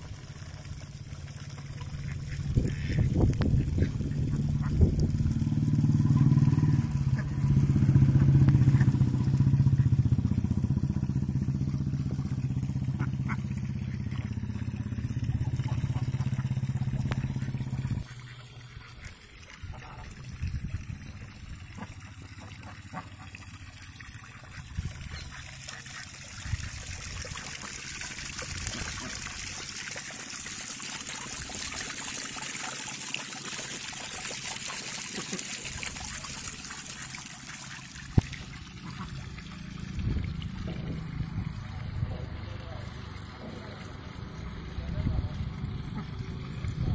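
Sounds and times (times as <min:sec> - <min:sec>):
water gushing into a pond: 0:00.0 - 0:46.9.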